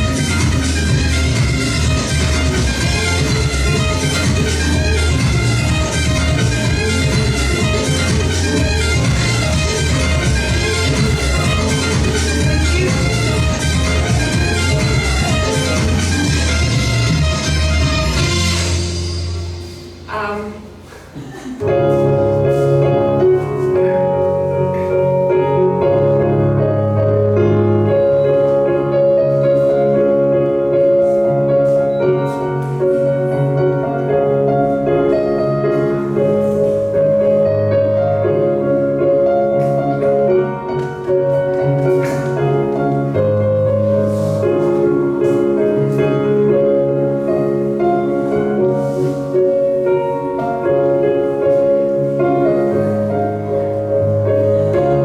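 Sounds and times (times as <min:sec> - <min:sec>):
instrumental piano music: 0:00.0 - 0:55.0.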